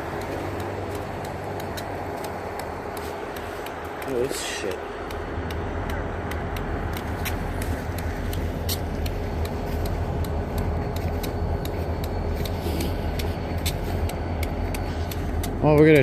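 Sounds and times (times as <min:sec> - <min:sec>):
quick regular ticking: 0:00.0 - 0:16.0
vehicle engine humming: 0:00.0 - 0:16.0.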